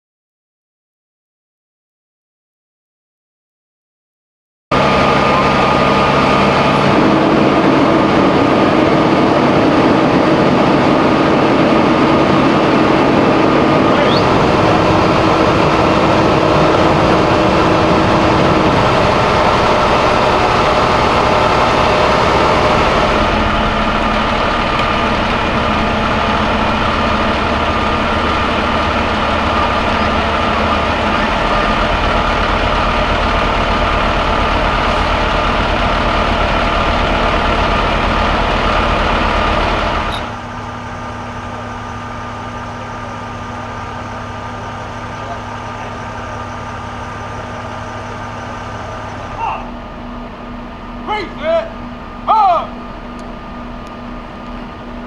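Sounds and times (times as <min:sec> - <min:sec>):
heavy vehicle engines running: 0:04.7 - 0:55.0.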